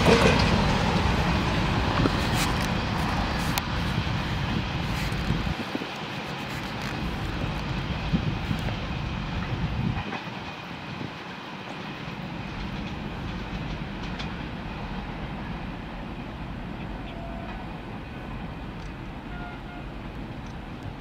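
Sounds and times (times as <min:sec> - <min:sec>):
freight train wheels rumbling on rails: 0:00.0 - 0:21.0.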